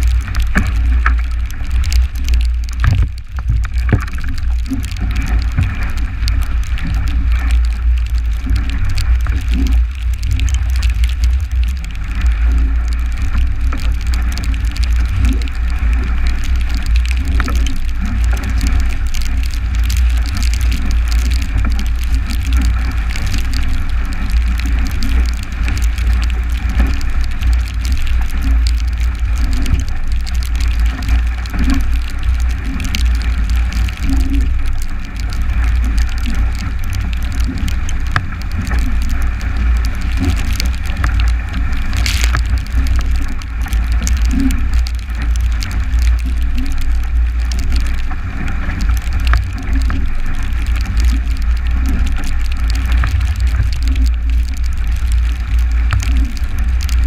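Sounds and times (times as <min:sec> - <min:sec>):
water rushing along hull: 0:00.0 - 0:57.0.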